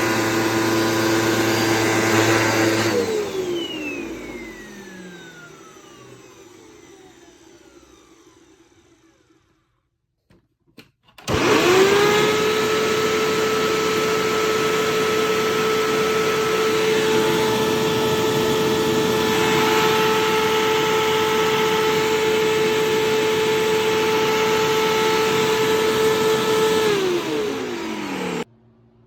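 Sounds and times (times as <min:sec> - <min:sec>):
vacuum cleaner motor whining: 0:00.0 - 0:09.8, 0:11.2 - 0:28.5
vacuum motor winding down: 0:00.0 - 0:09.8, 0:11.2 - 0:28.5.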